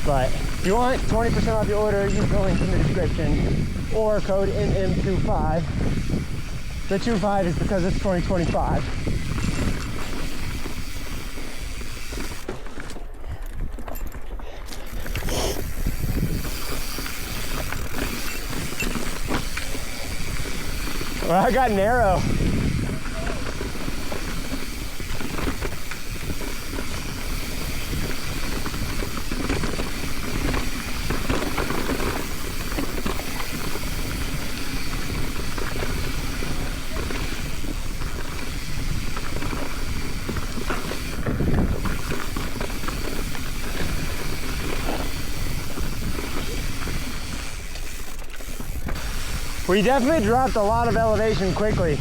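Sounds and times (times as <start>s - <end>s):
wind rushing over microphone: 0.0s - 12.5s, 14.9s - 47.7s, 48.5s - 52.0s
tyres grinding over dirt and rock: 0.0s - 13.2s, 14.8s - 52.0s
bike rattling: 0.0s - 52.0s.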